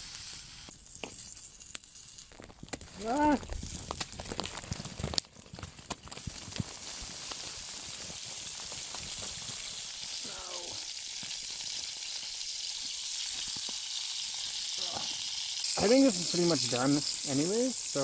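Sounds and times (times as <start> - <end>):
bacon sizzling in a pan: 0.0 - 18.0
fire crackling: 0.0 - 18.0.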